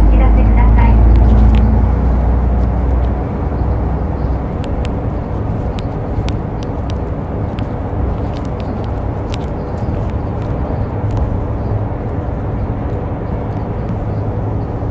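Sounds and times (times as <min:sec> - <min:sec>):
bus engine and road rumble: 0:00.0 - 0:14.9
sharp ticks: 0:01.0 - 0:14.4.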